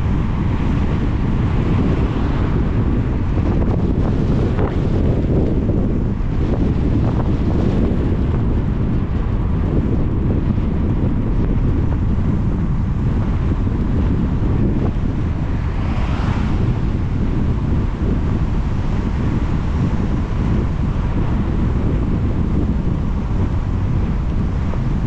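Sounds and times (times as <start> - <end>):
car driving on wet road: 0.0 - 25.0.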